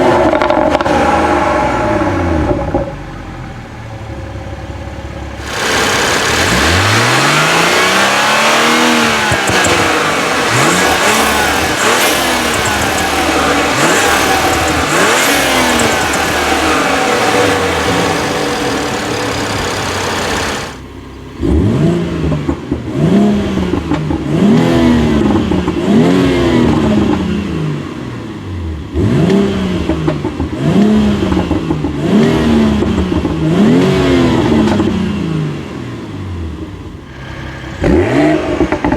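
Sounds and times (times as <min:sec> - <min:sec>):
car engine revving: 0:05.4 - 0:38.9.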